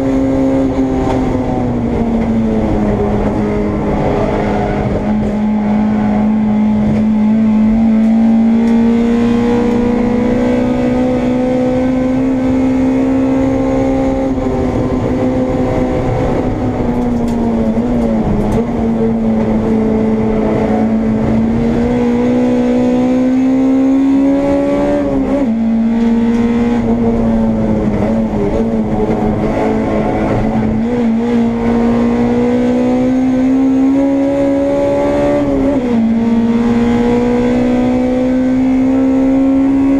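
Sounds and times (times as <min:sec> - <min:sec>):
race car engine under load: 0:00.0 - 0:39.9.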